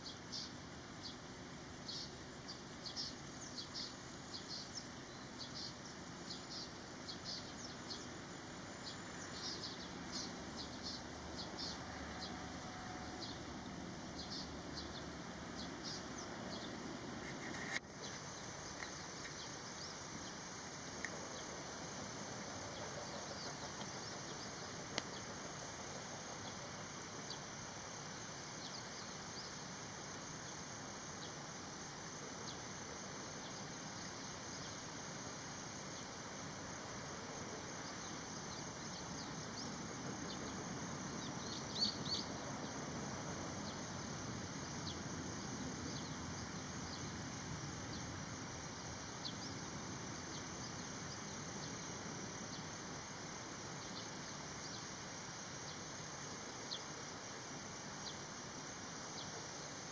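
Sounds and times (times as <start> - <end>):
steady high hiss: 0.0 - 59.9.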